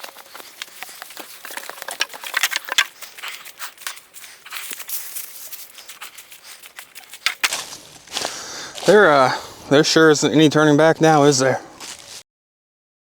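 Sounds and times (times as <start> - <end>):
rustling and crackling of dry material: 0.0 - 12.2.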